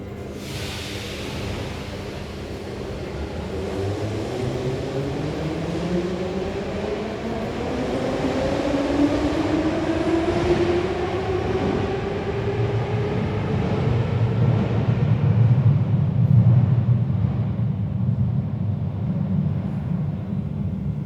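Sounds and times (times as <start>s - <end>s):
rumble of train cars: 0.0s - 21.0s.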